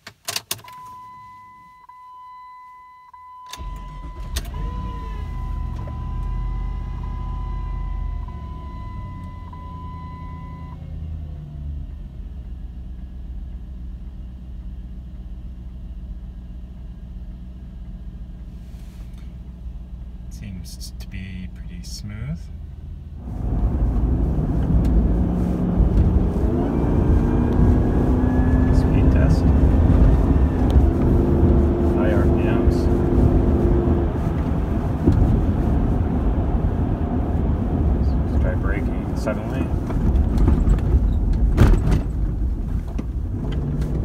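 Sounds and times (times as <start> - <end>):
car engine starting and idling: 0.0 - 44.0.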